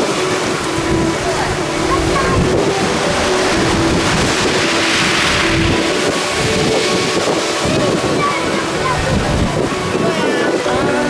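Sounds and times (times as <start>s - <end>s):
sea waves on a beach: 0.0s - 11.0s
wind buffeting the microphone: 0.0s - 11.0s.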